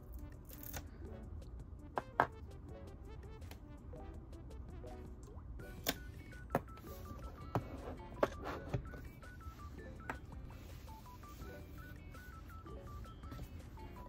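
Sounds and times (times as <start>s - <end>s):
background music with high notes: 0.0s - 14.0s.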